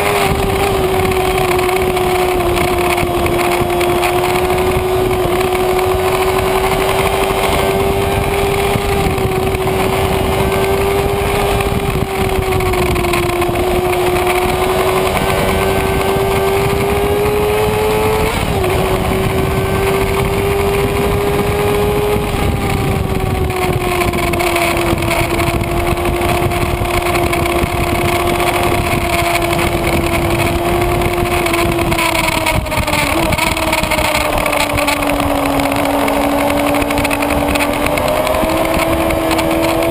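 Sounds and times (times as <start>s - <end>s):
motorcycle engine at high revs: 0.0s - 39.9s
wind noise: 0.0s - 39.9s.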